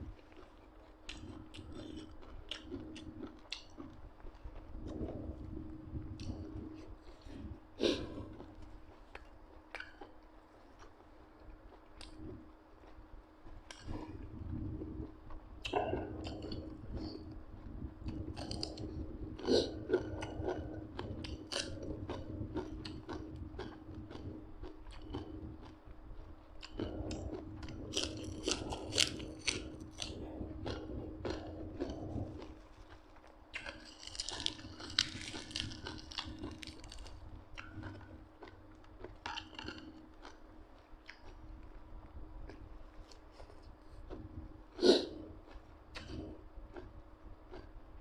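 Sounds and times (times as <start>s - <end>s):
person chewing: 0.0s - 41.8s, 42.4s - 47.8s.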